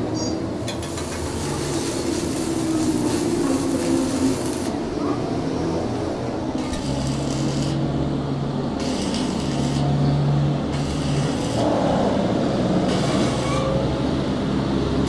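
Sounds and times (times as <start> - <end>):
workshop machinery humming: 0.0 - 15.0.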